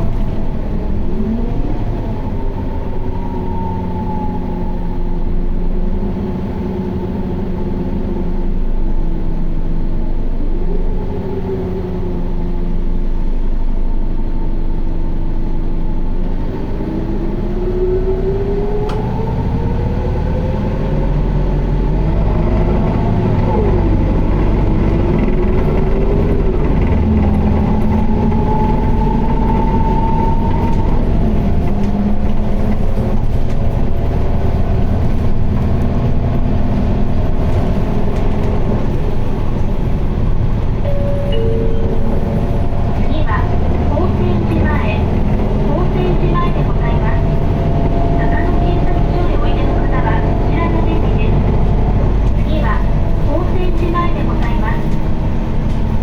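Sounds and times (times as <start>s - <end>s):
bus engine running: 0.0s - 56.0s
drivetrain whine: 0.0s - 56.0s.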